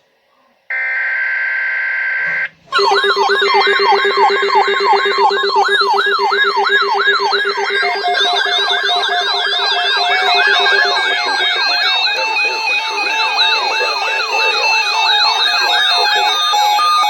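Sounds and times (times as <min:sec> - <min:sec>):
siren with rapid pitch sweeps: 0:00.7 - 0:17.0
short steady electronic tone: 0:02.3 - 0:16.7.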